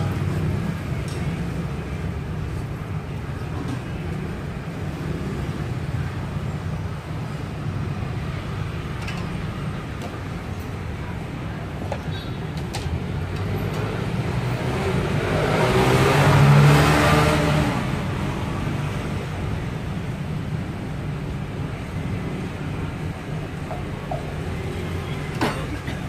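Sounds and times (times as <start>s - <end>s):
low rumble of street traffic: 0.0s - 26.0s.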